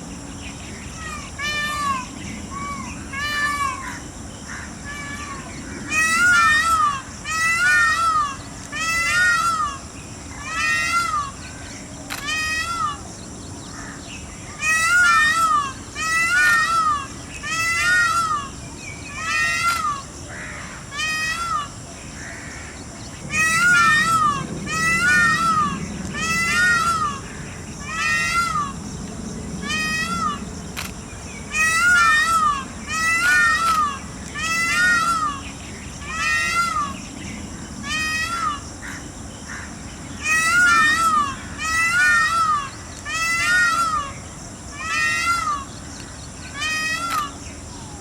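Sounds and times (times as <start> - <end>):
peafowl calling: 0.9 - 28.9, 29.6 - 37.2, 37.8 - 48.0.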